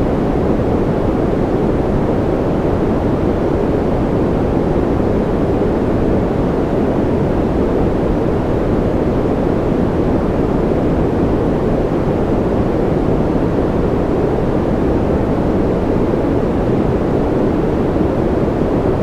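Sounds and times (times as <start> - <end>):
deep white noise: 0.0 - 19.0.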